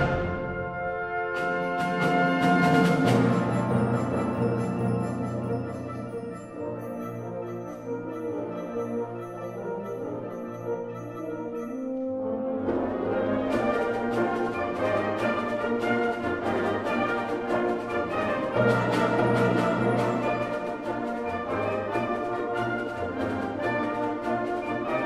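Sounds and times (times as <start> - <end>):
wind band playing: 0.0 - 25.0.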